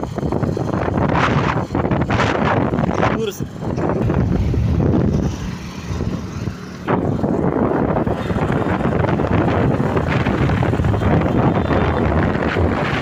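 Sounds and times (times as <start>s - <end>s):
vehicle road rumble: 0.0s - 13.0s
wind buffeting microphone: 0.0s - 13.0s.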